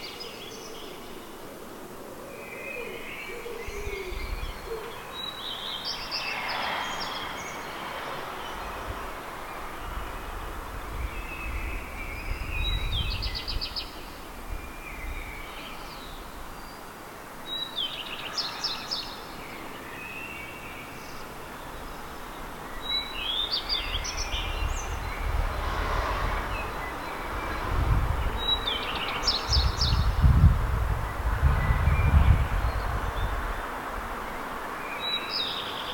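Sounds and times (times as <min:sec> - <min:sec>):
songbird singing: 0:00.0 - 0:35.9.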